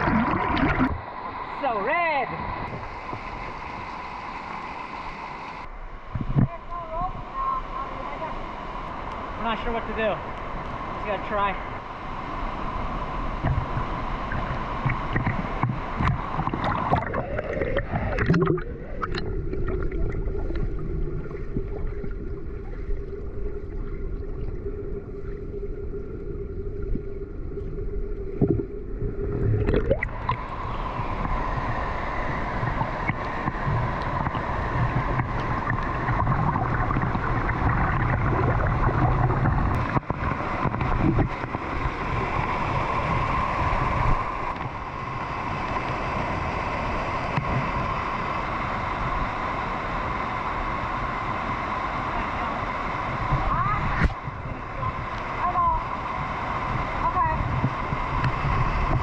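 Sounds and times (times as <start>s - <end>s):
river water rushing: 0.0s - 23.2s, 29.3s - 59.0s
low hum: 0.0s - 59.0s.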